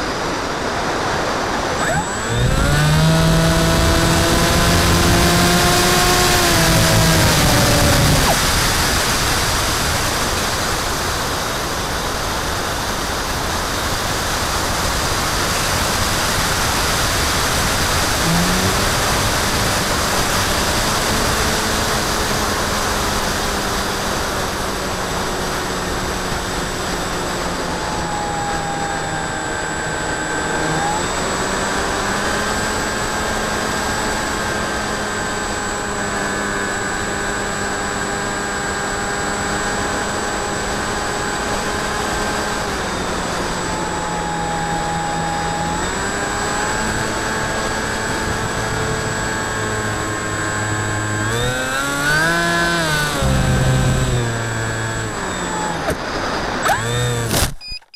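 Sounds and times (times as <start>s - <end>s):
electric motor whine: 0.0s - 57.7s.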